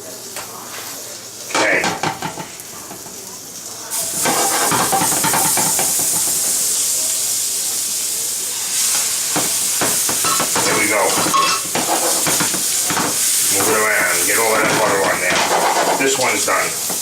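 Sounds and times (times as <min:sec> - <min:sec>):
butter sizzling in frying pan: 0:00.0 - 0:17.0.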